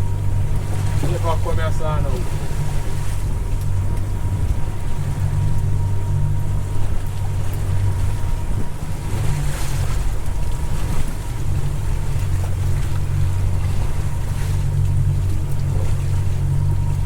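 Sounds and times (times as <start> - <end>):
motorboat engine running: 0.0 - 17.0
waves rushing against hull: 0.0 - 17.0.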